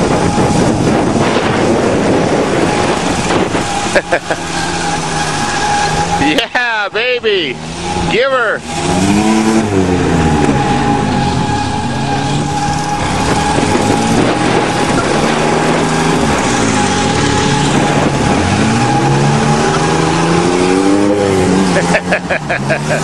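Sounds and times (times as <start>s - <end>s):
thin steady whine: 0.0s - 20.2s
engines revving: 0.0s - 23.0s.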